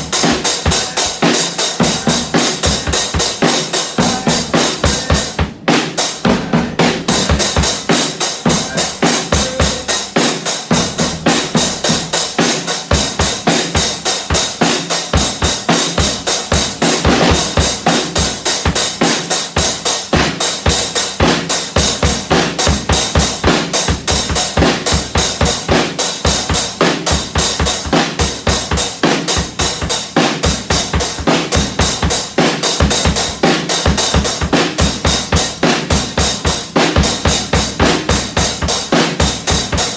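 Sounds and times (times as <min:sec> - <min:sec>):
drum kit fast beat: 0:00.0 - 0:39.9.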